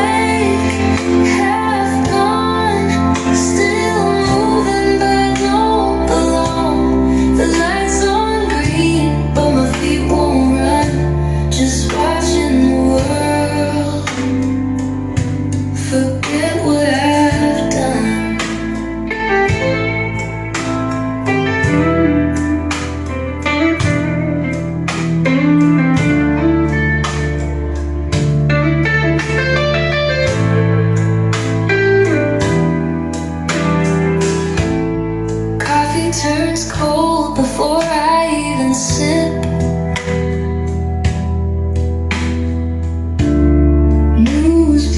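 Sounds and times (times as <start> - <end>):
song with guitar bass and singing: 0.0 - 44.9.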